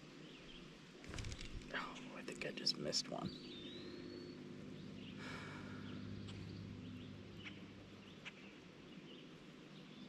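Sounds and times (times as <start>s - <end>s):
steady low hum: 0.0s - 10.0s
faint bird chirps: 0.1s - 10.0s.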